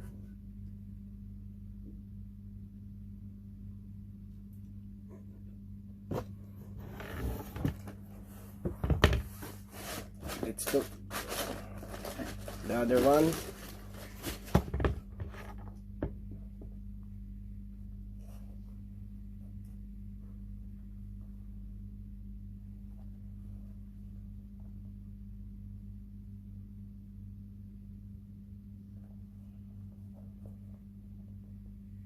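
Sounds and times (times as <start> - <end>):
low room tone hum: 0.0 - 32.0.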